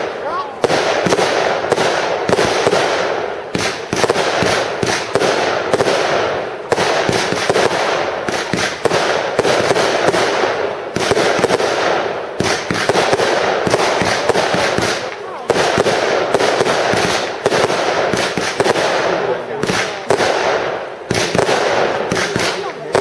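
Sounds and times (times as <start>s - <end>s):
fireworks barrage: 0.0s - 23.0s.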